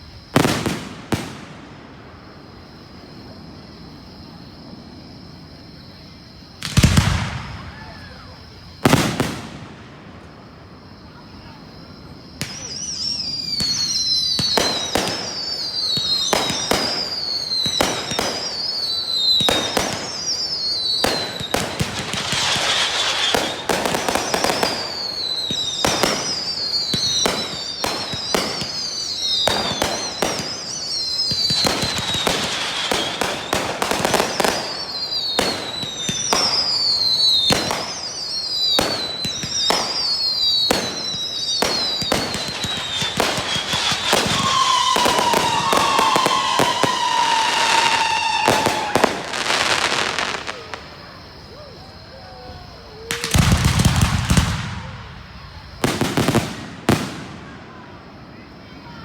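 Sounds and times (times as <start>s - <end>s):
falling firework whistles: 0.0s - 59.0s
fireworks bangs: 0.0s - 59.0s.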